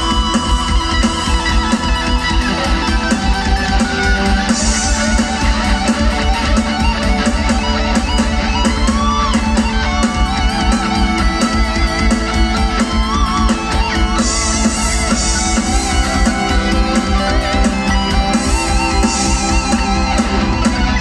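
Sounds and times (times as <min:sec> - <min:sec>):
bass guitar: 0:00.0 - 0:21.0
electric guitar lead: 0:00.0 - 0:21.0
rock drums: 0:00.0 - 0:21.0.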